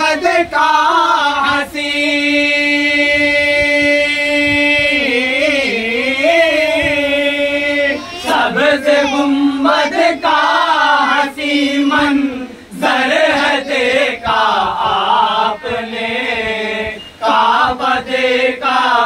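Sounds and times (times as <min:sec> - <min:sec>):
men singing together: 0:00.0 - 0:19.0.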